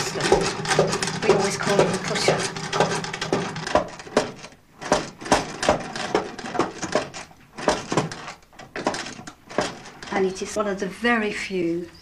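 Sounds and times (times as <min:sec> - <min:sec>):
sewing machine clacking: 0:00.0 - 0:10.6.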